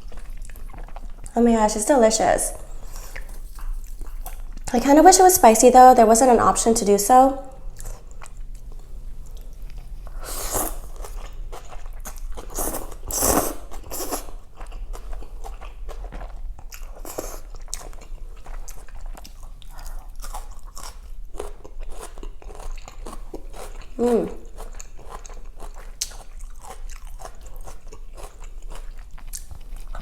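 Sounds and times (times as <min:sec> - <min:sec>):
chewing crunchy food: 0:00.0 - 0:01.4, 0:02.6 - 0:04.7, 0:07.6 - 0:30.0.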